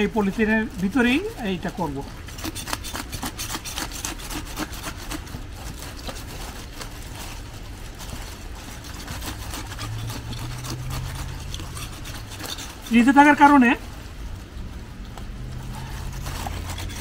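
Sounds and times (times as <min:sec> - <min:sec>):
fish scales being scraped: 0:00.0 - 0:14.1, 0:15.5 - 0:17.0.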